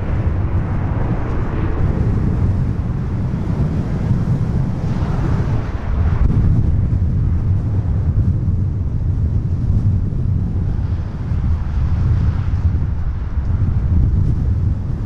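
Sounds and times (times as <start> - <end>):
jet engines low rumble: 0.0 - 15.0.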